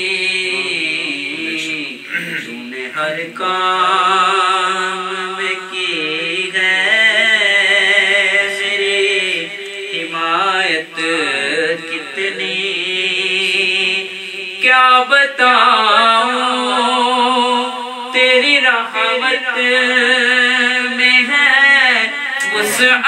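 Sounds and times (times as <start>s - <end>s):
person singing devotional poem: 0.0s - 23.0s.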